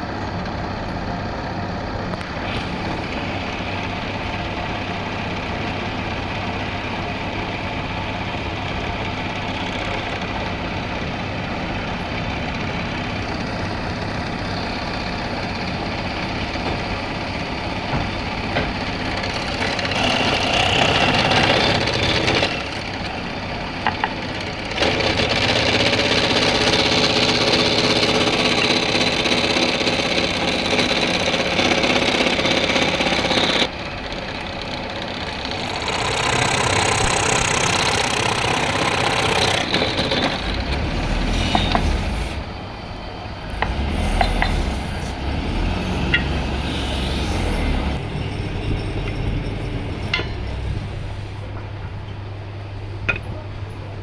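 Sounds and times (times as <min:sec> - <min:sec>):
woodworking machine cutting wood: 0:07.5 - 0:51.6.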